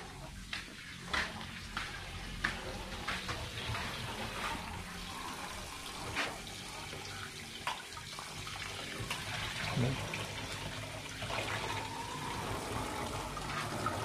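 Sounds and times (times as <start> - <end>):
tap water running into basin: 0.0 - 14.0.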